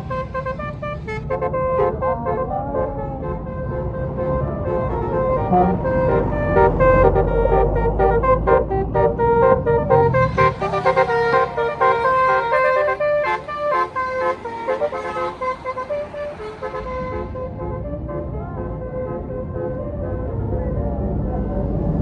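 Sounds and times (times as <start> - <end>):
musical air horn playing tune: 0.0 - 20.0
low engine rumble: 0.0 - 22.0.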